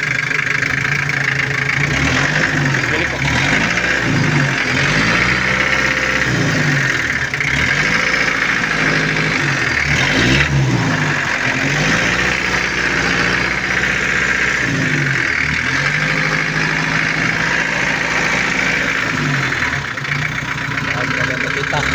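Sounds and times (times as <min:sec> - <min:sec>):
diesel engine revving: 0:00.0 - 0:21.9.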